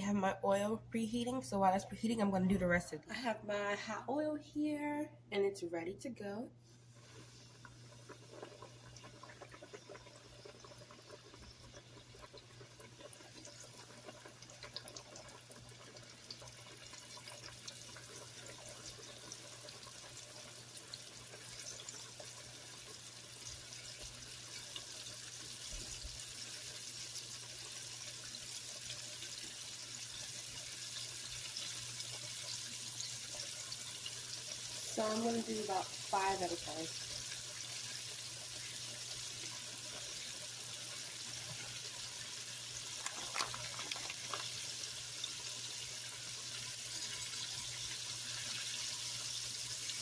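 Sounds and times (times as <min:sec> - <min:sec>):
chicken frying in oil: 0:06.7 - 0:50.0.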